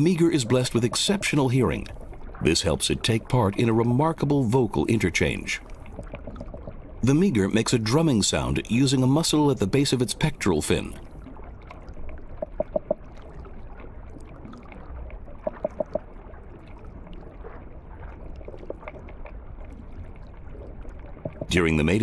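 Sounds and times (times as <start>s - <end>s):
low underwater hiss: 0.0s - 21.8s
fish drumming underwater: 0.0s - 22.0s.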